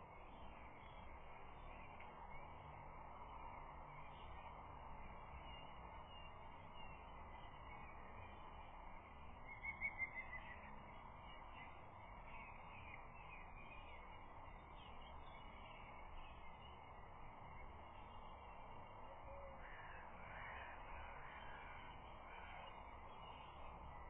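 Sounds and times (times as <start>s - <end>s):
faint outdoor hiss: 0.0s - 24.0s.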